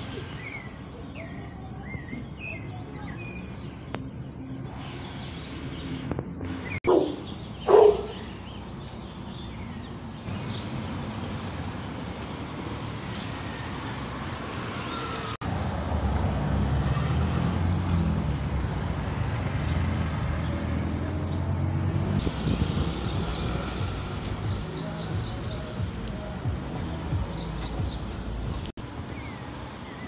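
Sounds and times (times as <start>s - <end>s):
cars driving along road: 0.0s - 30.0s.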